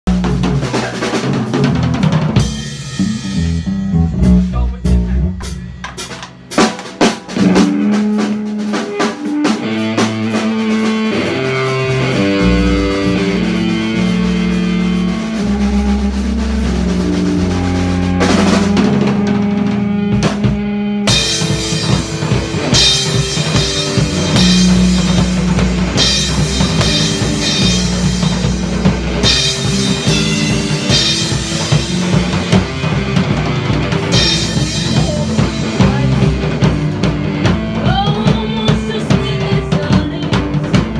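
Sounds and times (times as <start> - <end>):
bass guitar: 0.0 - 40.9
drum kit: 0.0 - 40.9
electric guitar: 0.1 - 40.9.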